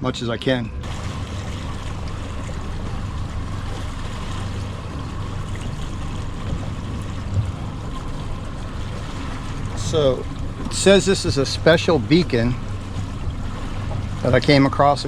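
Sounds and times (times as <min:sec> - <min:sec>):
outboard motor running: 0:00.0 - 0:15.0
water rushing past hull: 0:00.0 - 0:15.0.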